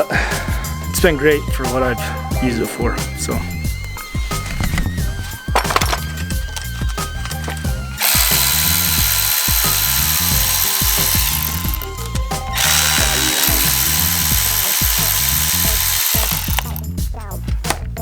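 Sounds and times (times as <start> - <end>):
background music: 0.0 - 18.0
cordless ratchet motor whine: 2.2 - 16.9.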